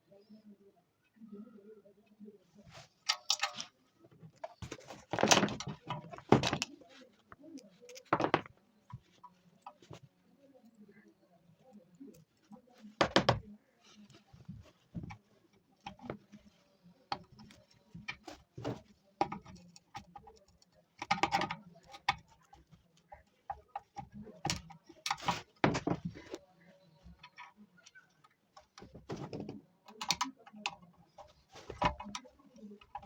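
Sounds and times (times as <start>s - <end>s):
small clicks and knocks: 2.8s - 33.0s.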